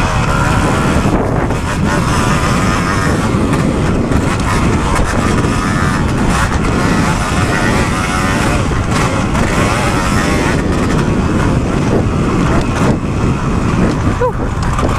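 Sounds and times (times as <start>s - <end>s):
motocross bike engine running hard: 0.0s - 14.9s
wind rumble on microphone: 0.0s - 14.9s.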